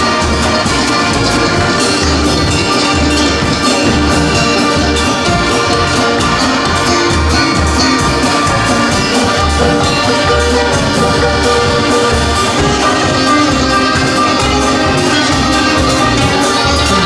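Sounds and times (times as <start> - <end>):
live band playing instrumental: 0.0 - 17.0.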